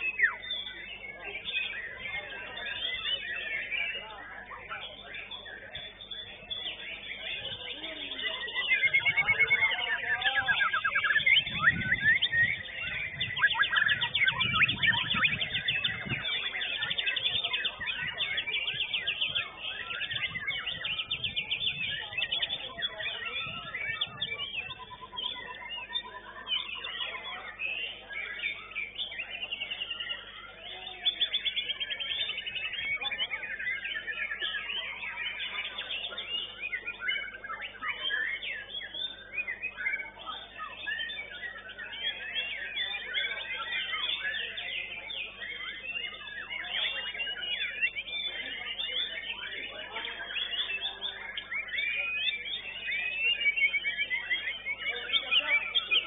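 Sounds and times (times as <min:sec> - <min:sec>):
songbird singing trills and whistles: 0:00.0 - 0:56.0.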